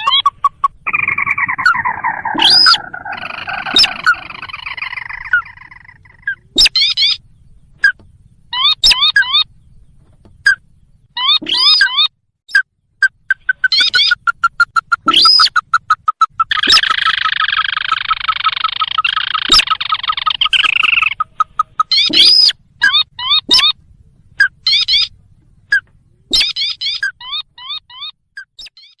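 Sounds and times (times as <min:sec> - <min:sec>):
recorded crake calls: 0:00.0 - 0:09.5, 0:10.4 - 0:29.0.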